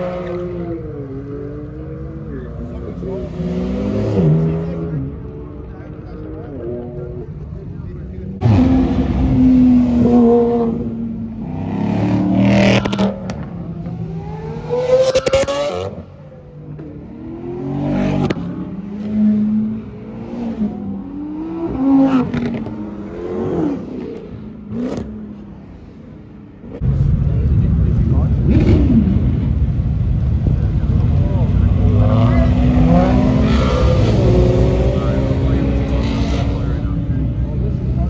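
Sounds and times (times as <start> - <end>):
sports cars accelerating past: 0.0 - 7.4, 8.3 - 38.0.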